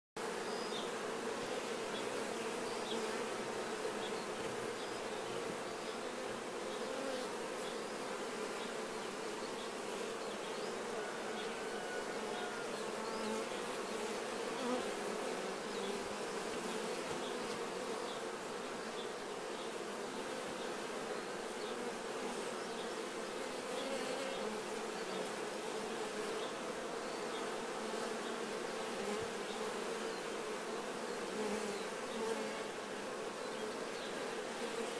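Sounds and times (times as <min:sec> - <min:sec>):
bees buzzing: 0:00.2 - 0:34.9.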